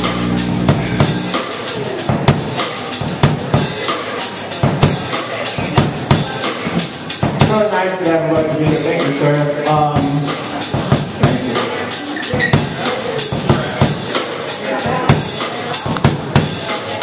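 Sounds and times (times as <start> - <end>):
drum kit beating: 0.0 - 17.0.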